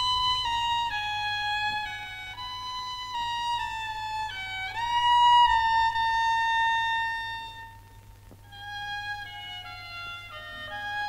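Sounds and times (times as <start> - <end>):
solo violin slow melody: 0.0 - 11.0.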